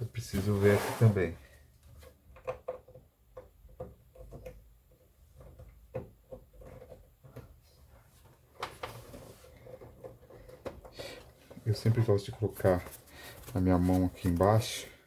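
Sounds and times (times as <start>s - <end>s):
cables and connectors handled: 1.6s - 15.0s.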